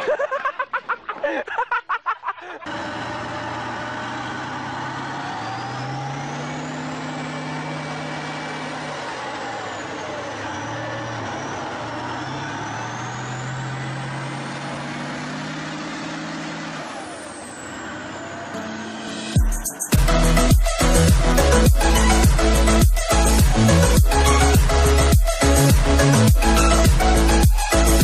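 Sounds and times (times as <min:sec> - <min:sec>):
tank engine working hard: 0:02.7 - 0:19.0, 0:20.0 - 0:28.0.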